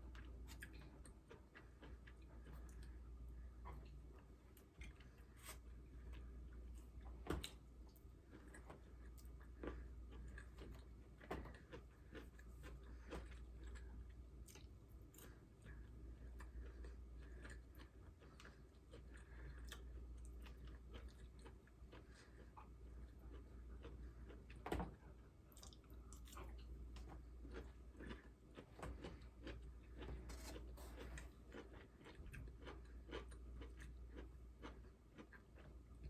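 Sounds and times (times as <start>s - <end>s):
chewing food: 0.0s - 36.0s
steady low hum: 0.0s - 36.0s.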